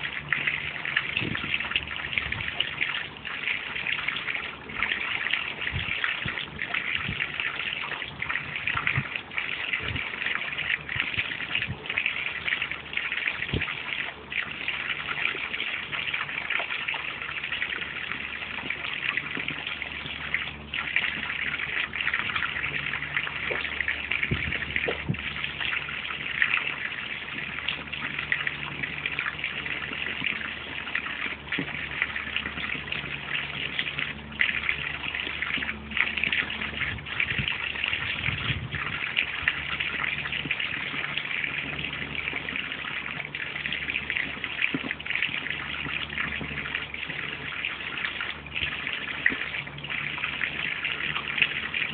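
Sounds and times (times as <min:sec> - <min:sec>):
hose water splashing into pond: 0:00.0 - 0:51.9.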